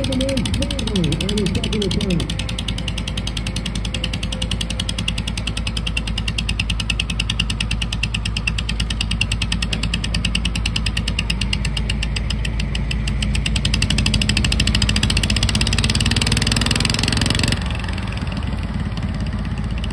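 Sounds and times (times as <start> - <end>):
small tractor engine running: 0.0 - 19.9.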